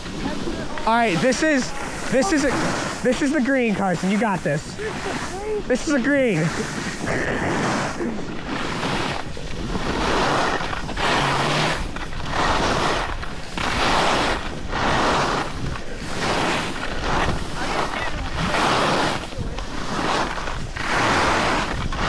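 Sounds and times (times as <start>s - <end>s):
snowboard edge scraping snow: 0.0s - 22.0s.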